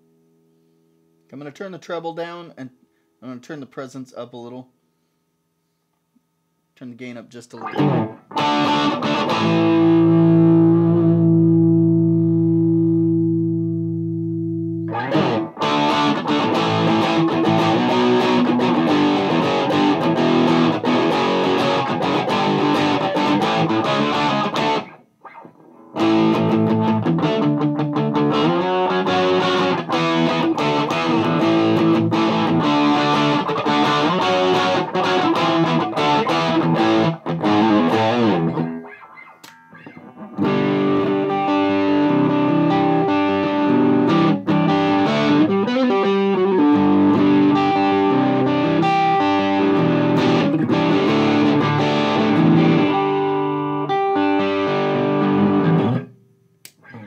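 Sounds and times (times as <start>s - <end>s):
distorted electric guitar riffing: 7.5s - 56.2s.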